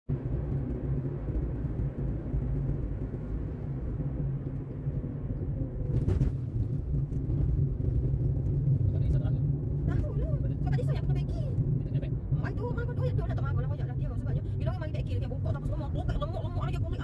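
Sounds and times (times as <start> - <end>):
car engine rumble: 0.1 - 17.0
road noise inside car: 0.1 - 17.0.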